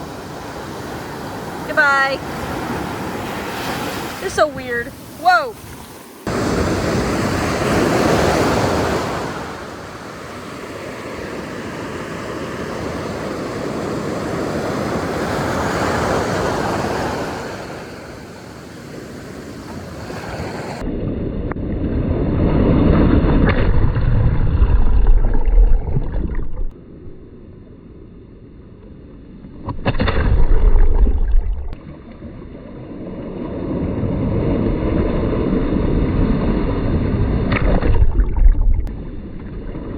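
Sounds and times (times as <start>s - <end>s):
ocean surf washing: 0.0s - 26.8s, 29.3s - 39.9s.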